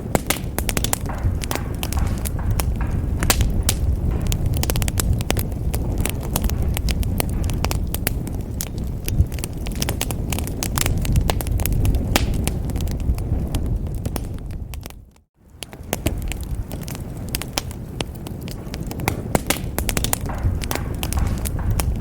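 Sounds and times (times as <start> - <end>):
burning wood crackling and popping: 0.0 - 22.0
flames rumbling: 0.0 - 22.0.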